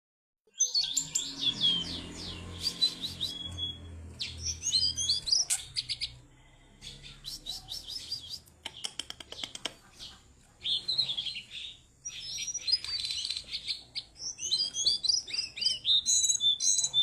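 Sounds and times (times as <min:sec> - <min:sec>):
bird warbling song: 0:00.5 - 0:17.0.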